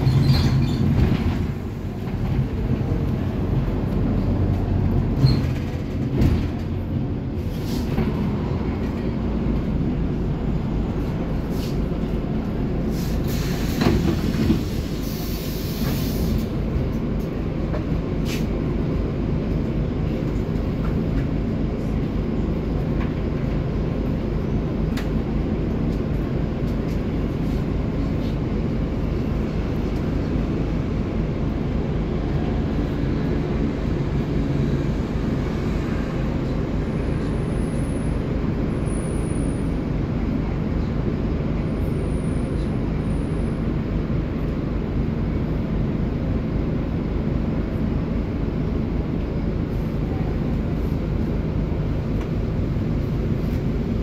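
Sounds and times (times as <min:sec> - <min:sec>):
bus engine low rumble: 0:00.0 - 0:54.0.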